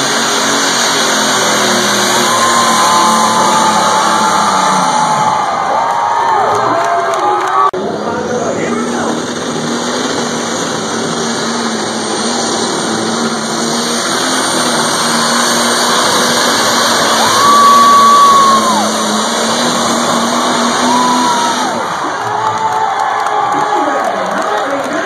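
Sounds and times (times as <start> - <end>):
engine at full power: 0.0 - 25.0.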